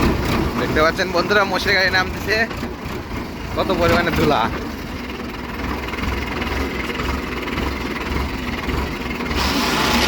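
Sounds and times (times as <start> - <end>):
tractor diesel engine pulsing: 0.0 - 10.0.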